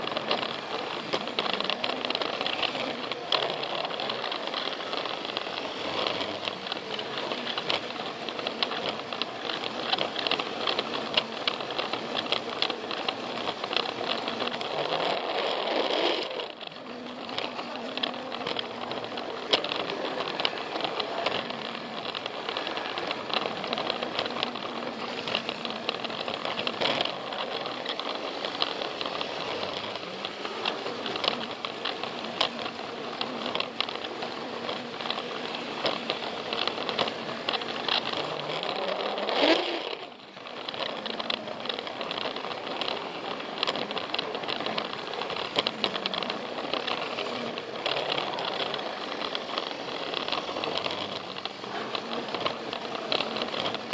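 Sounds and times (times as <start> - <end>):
toy train motor whirring: 0.0 - 53.9
wheels clicking over track joints: 0.0 - 53.9.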